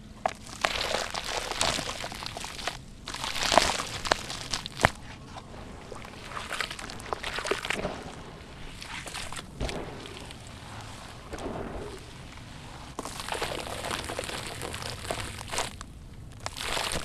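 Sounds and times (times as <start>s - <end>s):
gritty crunching of cement pieces: 0.0s - 17.0s
wet cement sloshing and squelching: 0.2s - 17.0s.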